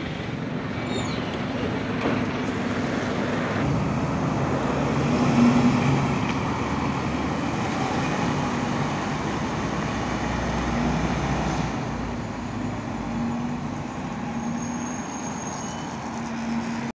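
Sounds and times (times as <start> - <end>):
bus engine pulling away: 0.0 - 16.9
street traffic: 0.0 - 17.0.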